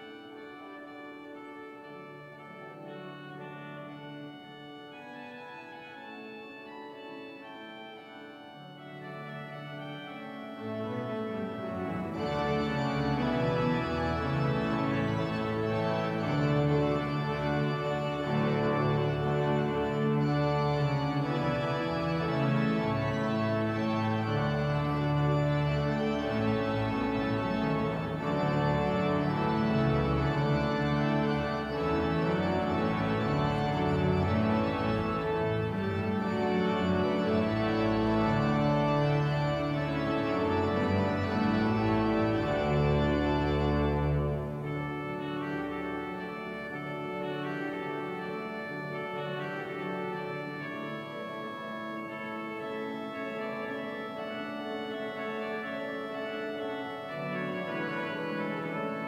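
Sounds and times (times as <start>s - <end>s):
organ playing chords: 0.0s - 59.0s.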